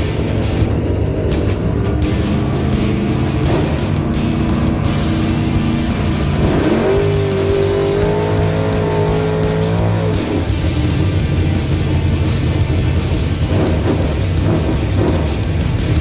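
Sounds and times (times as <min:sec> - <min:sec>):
background music: 0:00.0 - 0:16.0
race car engine revving: 0:00.0 - 0:16.0.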